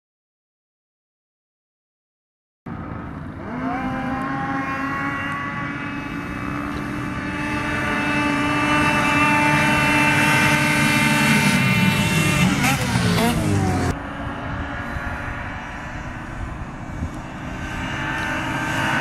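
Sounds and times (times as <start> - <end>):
snowmobile engines high whine: 2.7 - 19.0.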